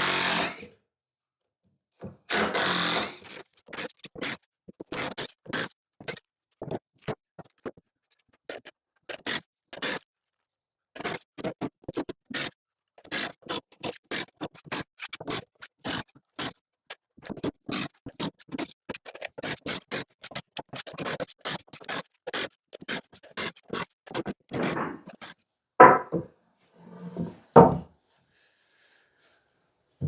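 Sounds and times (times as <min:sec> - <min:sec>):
clicks and scrapes of wood and metal: 0:02.3 - 0:10.0, 0:11.0 - 0:27.5.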